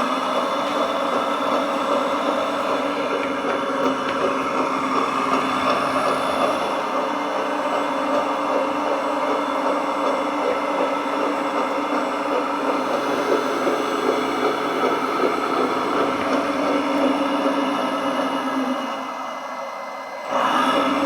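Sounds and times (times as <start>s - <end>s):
toy bulldozer mechanical whir: 0.0s - 19.2s.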